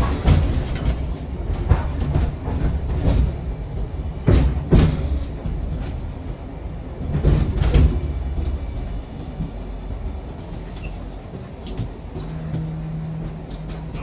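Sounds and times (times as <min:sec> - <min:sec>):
streetcar rumbling: 0:00.0 - 0:14.0.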